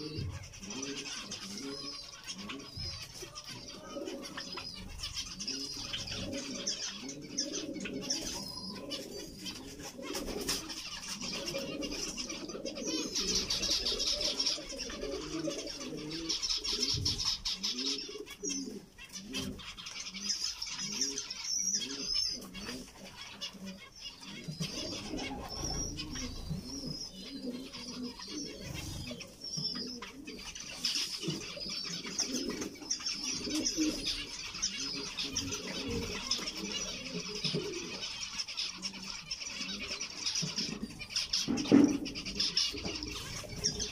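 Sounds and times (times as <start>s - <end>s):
bird cooing: 0.0s - 43.9s
finches chattering: 0.0s - 43.9s.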